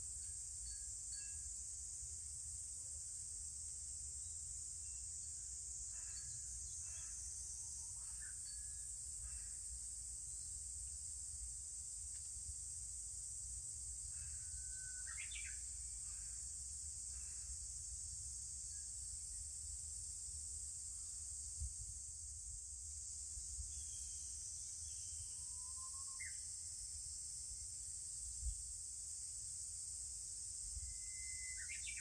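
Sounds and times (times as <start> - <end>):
cicadas droning: 0.0 - 32.0.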